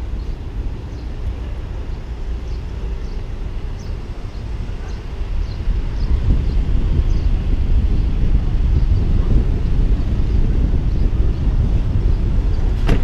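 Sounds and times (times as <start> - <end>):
car driving slowly: 0.0 - 13.0
wind noise on camera: 0.0 - 13.0.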